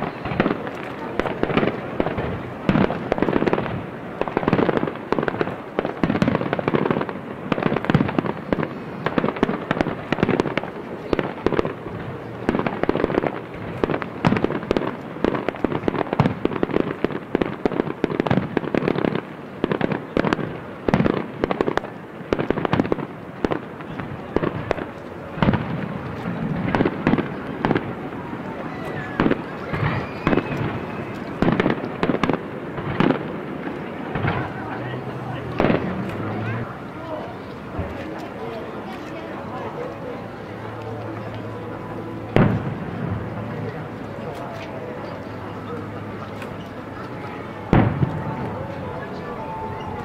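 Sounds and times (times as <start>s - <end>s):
fireworks bursting: 0.0s - 40.1s, 40.7s - 50.0s.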